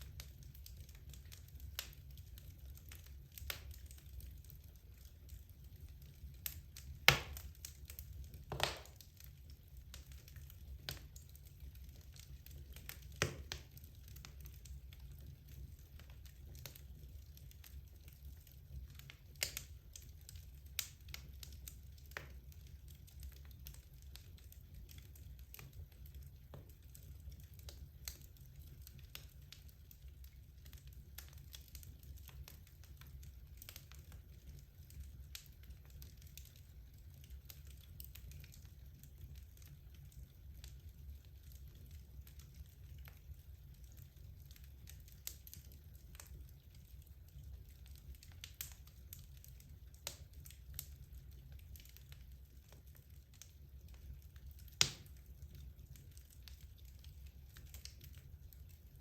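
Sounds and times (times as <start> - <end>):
logs crackling and popping: 0.0 - 59.0
low rumble of fire: 0.0 - 59.0.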